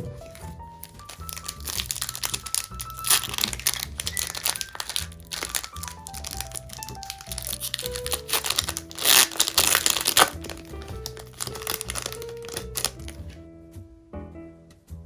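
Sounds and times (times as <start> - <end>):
soft background music: 0.0 - 15.0
foil wrappers crinkling: 0.2 - 13.4.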